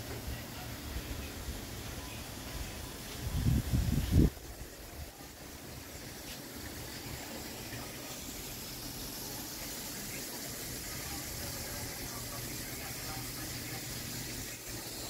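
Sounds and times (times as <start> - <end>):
shrimp sizzling and bubbling: 0.0 - 15.0.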